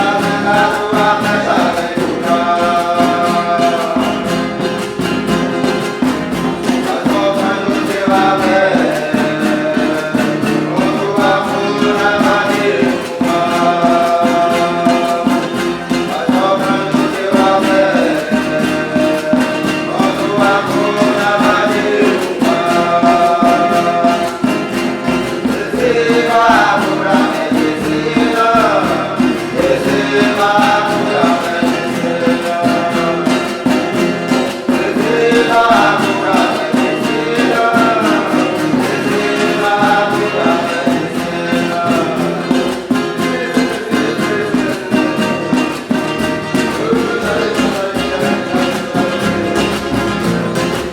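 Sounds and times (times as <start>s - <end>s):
rhythmic instrumental accompaniment: 0.0s - 50.9s
voices singing a chant: 0.0s - 50.9s.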